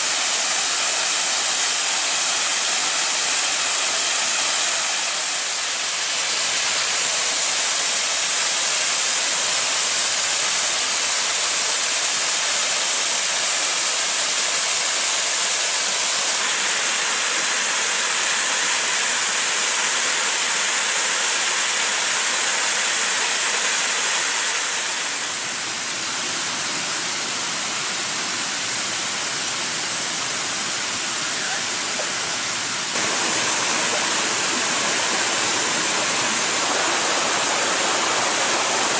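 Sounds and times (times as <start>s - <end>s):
waterfall splashing: 0.0s - 38.9s.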